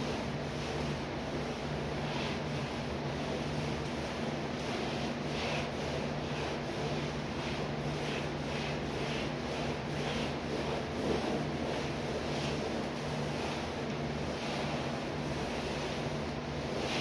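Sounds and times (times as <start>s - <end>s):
cloth rag wiping a wall: 0.0s - 17.0s.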